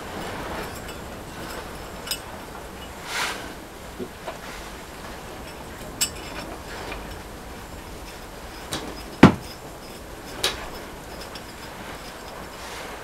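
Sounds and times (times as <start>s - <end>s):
steel parts knocking and clinking: 0.0s - 13.0s.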